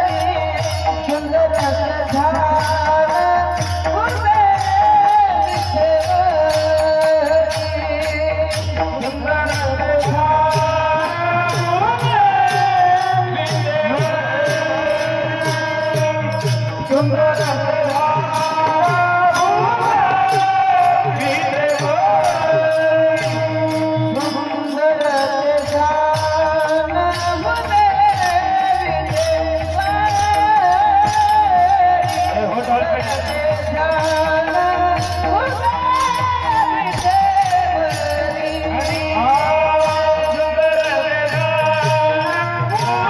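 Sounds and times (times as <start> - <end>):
person singing devotional melody: 0.0 - 43.0
steady percussion beat: 0.0 - 43.0
sustained accompaniment: 0.0 - 43.0.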